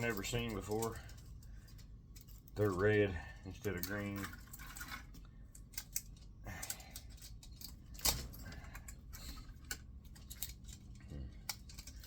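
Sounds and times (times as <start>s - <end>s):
metal parts clicking and clinking: 0.0s - 12.0s.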